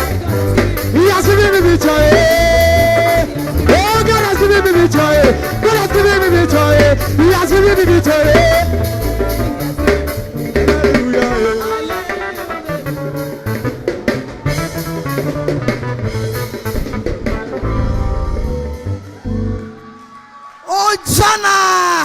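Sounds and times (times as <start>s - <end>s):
drum kit beating: 0.0s - 19.9s
praise band playing: 0.0s - 22.0s.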